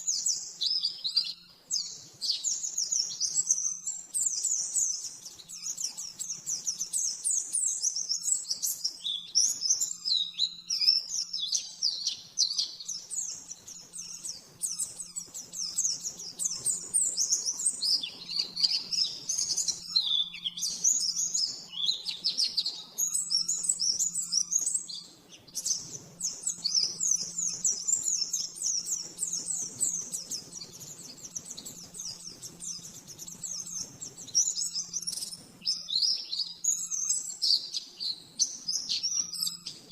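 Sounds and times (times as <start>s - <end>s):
bird chirping twitters: 0.0s - 39.9s.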